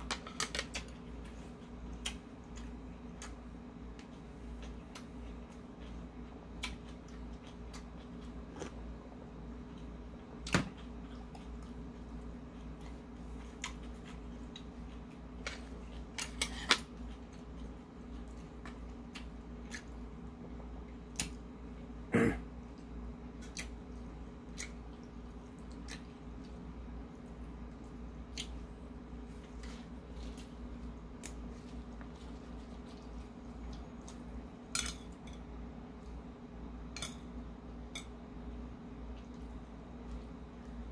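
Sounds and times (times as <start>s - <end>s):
person chewing: 0.0s - 9.0s, 9.6s - 20.2s, 22.6s - 37.3s
steady low hum: 0.0s - 40.9s.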